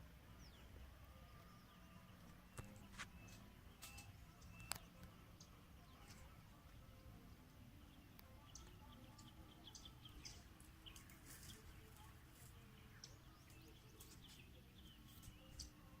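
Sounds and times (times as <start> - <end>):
faint bird chirps: 0.4 - 16.0.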